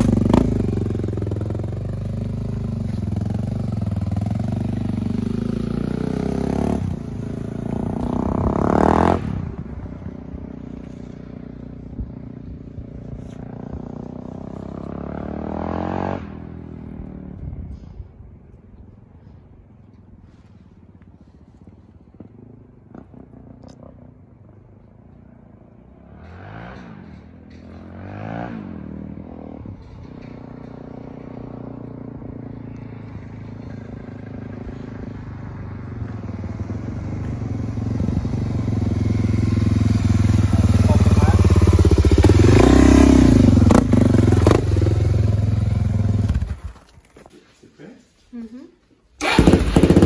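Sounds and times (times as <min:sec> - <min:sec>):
motorcycle revving and passing: 0:00.0 - 0:47.1, 0:49.2 - 0:50.0.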